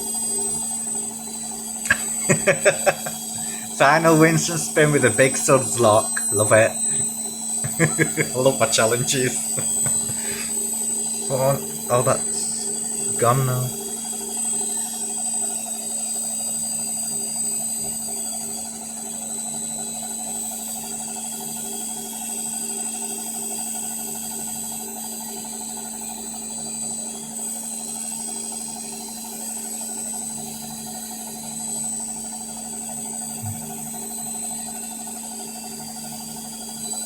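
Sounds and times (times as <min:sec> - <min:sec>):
washing machine spinning with whine: 0:00.0 - 0:37.0.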